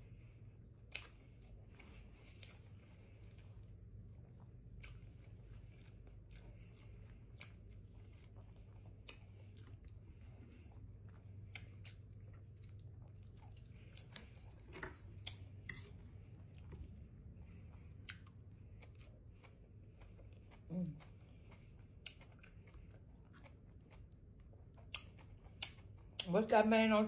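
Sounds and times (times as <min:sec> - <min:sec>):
steady low hum: 0:00.0 - 0:27.0
person chewing: 0:00.1 - 0:26.3.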